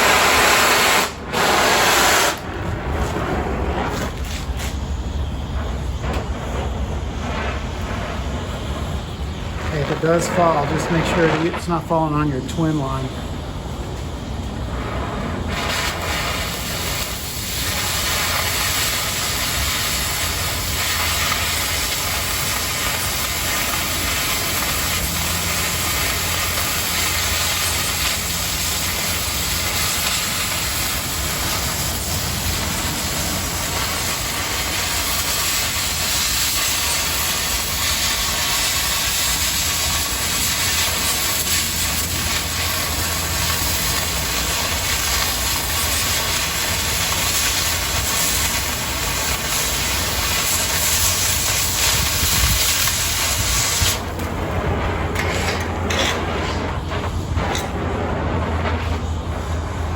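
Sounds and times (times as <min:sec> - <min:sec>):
cutting torch flame hissing: 0:00.0 - 0:59.9.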